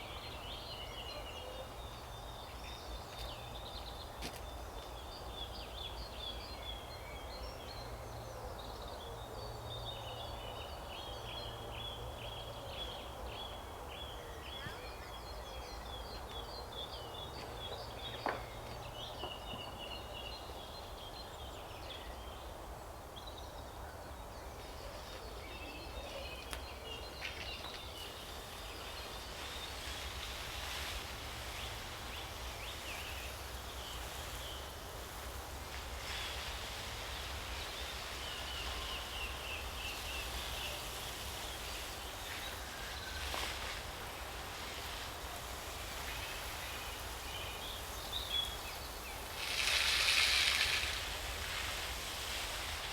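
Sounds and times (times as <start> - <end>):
songbirds chirping: 0.0 - 30.8, 36.1 - 50.9.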